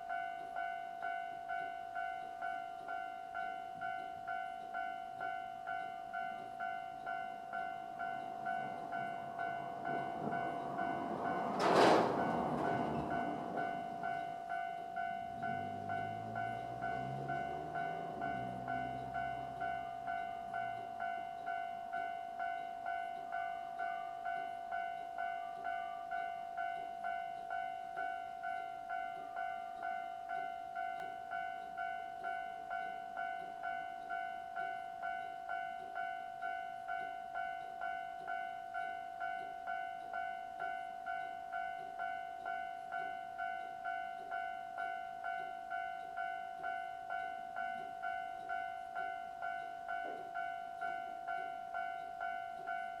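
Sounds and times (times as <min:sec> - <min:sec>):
level crossing alarm ringing: 0:00.0 - 0:53.0.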